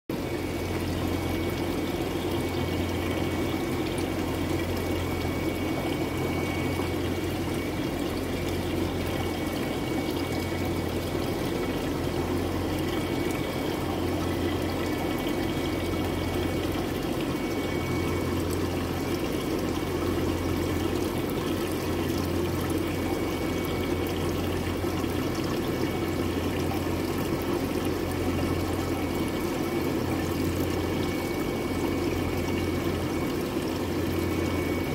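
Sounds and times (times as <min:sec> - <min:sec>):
low hum of tank circulation: 0:00.1 - 0:34.9
running water: 0:00.1 - 0:34.9.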